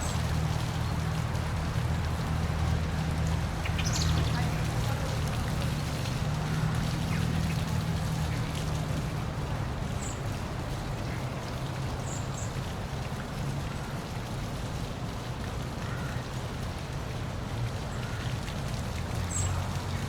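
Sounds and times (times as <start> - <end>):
waterfall pouring and splashing: 0.0 - 20.0.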